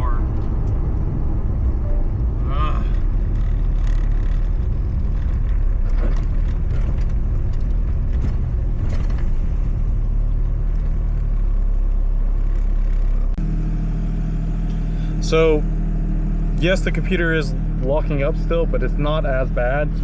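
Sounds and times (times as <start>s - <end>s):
car engine drone: 0.0s - 20.0s
road noise: 0.0s - 20.0s.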